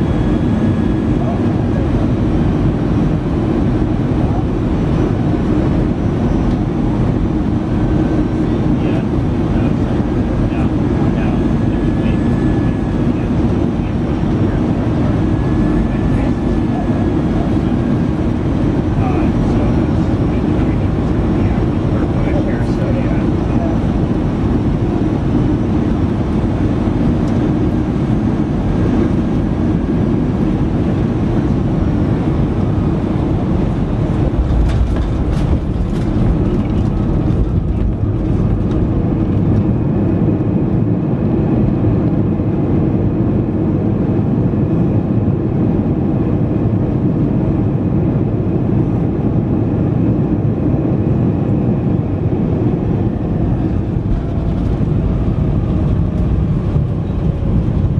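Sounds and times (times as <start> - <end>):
jet cabin rumble: 0.0 - 57.9.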